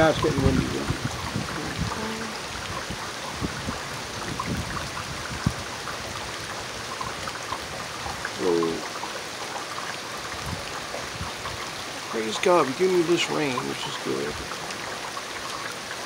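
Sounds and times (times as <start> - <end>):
heavy rain: 0.0 - 16.0
raindrops ticking on surfaces: 0.0 - 16.0.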